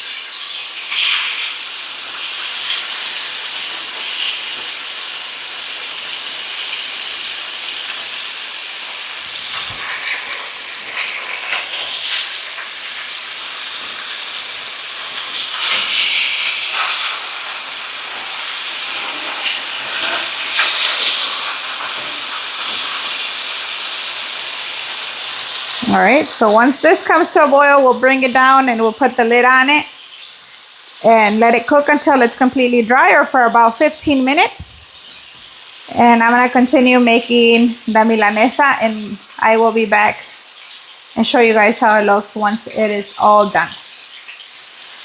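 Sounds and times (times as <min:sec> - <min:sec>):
chicken frying in oil: 0:00.0 - 0:45.0.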